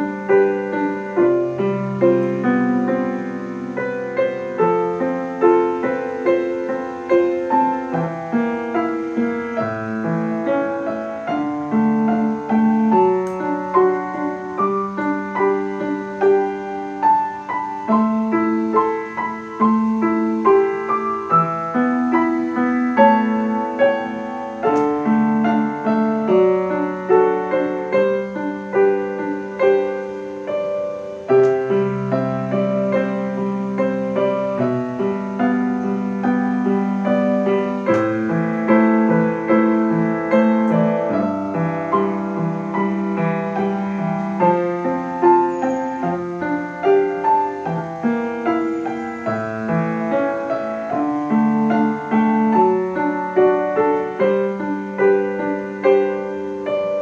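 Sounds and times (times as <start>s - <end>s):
solo piano melody: 0.0s - 57.0s.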